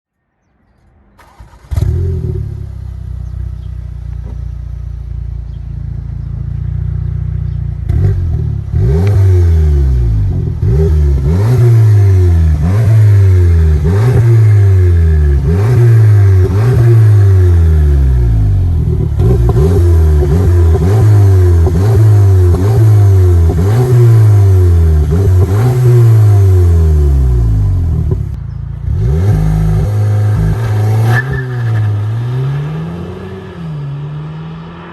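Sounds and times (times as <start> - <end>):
car engine starting and idling: 0.6 - 34.9
car engine revving: 1.2 - 34.9.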